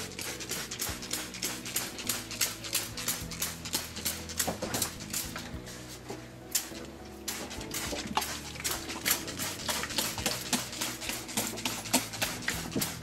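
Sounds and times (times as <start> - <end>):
spray bottle hissing: 0.0 - 6.0, 6.6 - 13.0
faint background music: 0.0 - 13.0.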